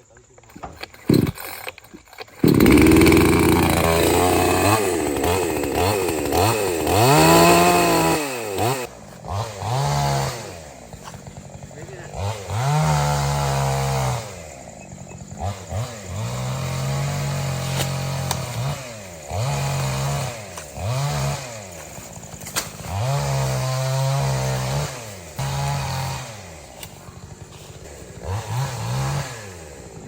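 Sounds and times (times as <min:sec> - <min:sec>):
chainsaw revving: 0:00.5 - 0:30.0.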